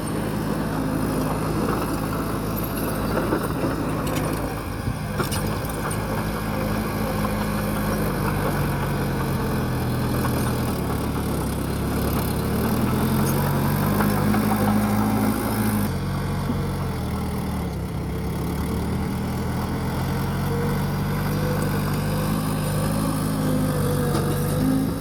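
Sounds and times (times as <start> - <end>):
heavy diesel engine working: 0.0 - 25.0.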